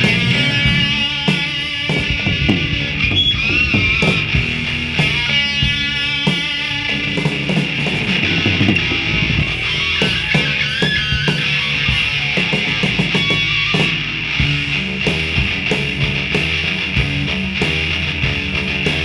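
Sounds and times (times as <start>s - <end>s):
rock music with electric guitar: 0.0s - 19.0s.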